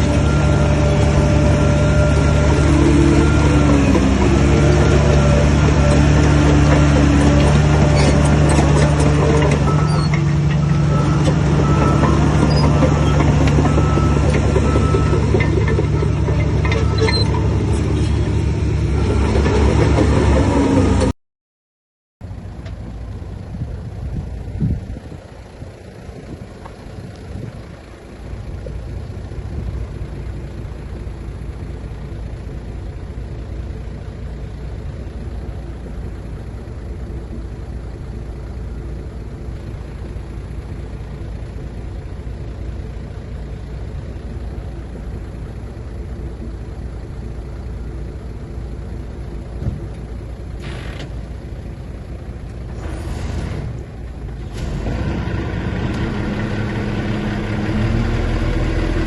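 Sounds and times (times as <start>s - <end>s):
heavy diesel engine running: 0.0s - 21.1s, 22.2s - 59.0s.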